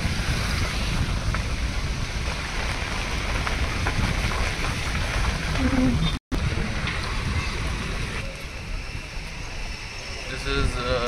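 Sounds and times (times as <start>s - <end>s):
low road rumble: 0.0s - 11.0s
wind buffeting microphone: 0.0s - 11.0s.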